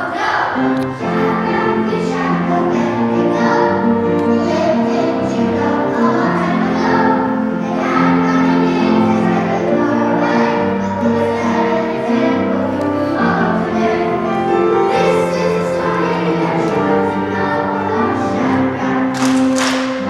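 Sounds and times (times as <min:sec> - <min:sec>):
children's choir singing: 0:00.0 - 0:20.0
instrumental accompaniment: 0:00.2 - 0:20.0.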